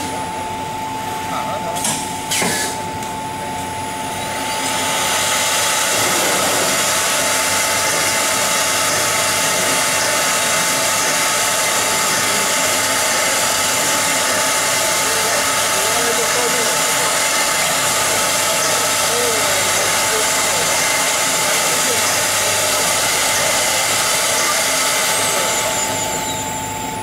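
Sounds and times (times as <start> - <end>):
wood router whine and hiss: 2.3 - 27.0.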